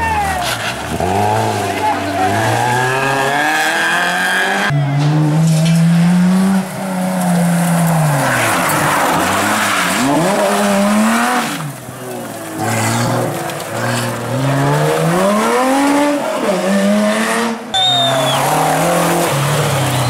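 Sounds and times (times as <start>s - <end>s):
tyres skidding on gravel: 0.0s - 4.6s, 5.4s - 16.6s, 17.8s - 20.0s
rally car engine revving: 0.0s - 20.0s.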